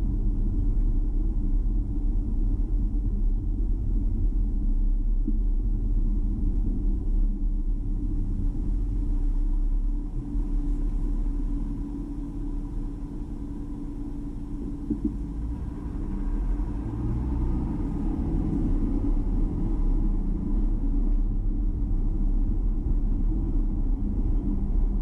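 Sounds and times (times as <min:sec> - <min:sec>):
car rumble from inside cabin: 0:00.0 - 0:25.0.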